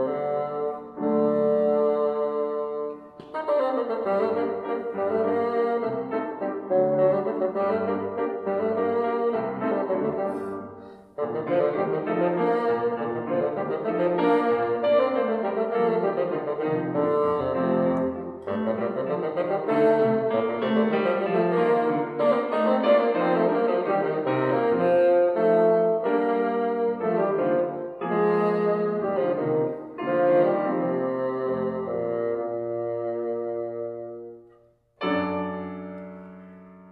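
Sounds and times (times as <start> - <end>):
bassoon melody: 0.0 - 36.9
piano accompaniment: 0.0 - 36.9.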